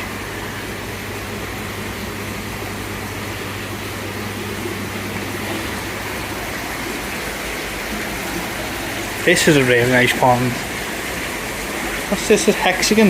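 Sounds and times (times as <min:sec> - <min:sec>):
pond pumps humming and hissing: 0:00.0 - 0:13.0.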